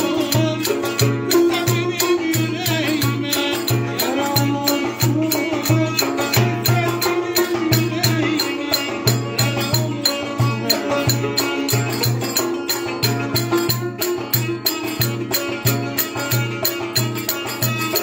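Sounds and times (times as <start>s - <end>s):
wavering folk melody: 0.0s - 18.0s.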